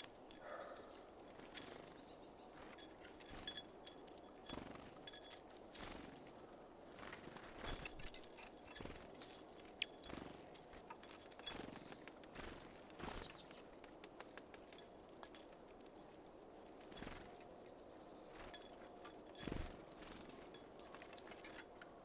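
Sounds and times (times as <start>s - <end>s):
birds pecking seeds: 0.0s - 22.0s.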